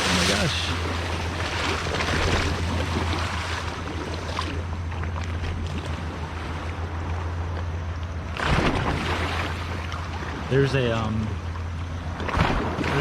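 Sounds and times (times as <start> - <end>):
surf: 0.0 - 7.1, 8.3 - 13.0
wind: 0.0 - 13.0.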